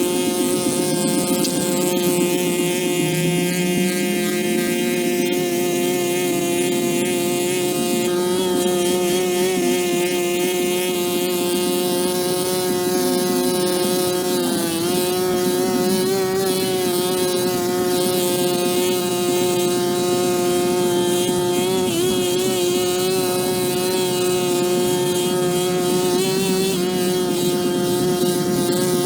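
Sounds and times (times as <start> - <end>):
pressure washer whine: 0.0 - 29.0.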